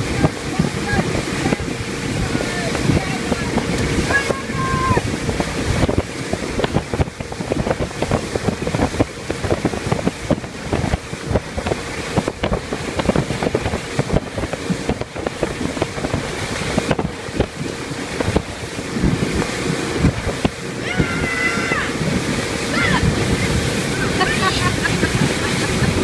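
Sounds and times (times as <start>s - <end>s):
hull slapping through water: 0.0s - 26.0s
wind buffeting microphone: 0.0s - 26.0s.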